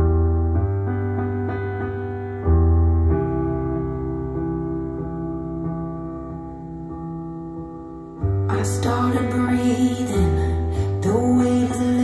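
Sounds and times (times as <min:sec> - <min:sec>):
piano through speakers: 0:00.0 - 0:12.0.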